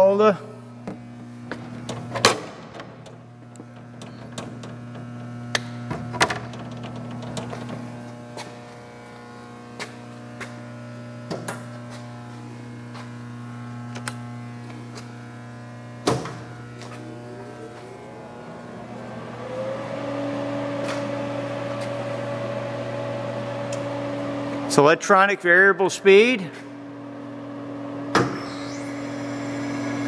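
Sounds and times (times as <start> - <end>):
lathe motor whine: 0.0 - 24.9, 26.6 - 30.0
electrical hum: 0.0 - 30.0.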